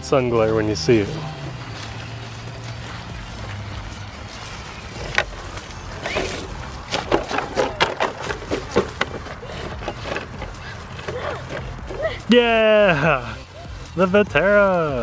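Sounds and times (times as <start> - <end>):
dry leaves crunching underfoot: 0.0 - 15.0.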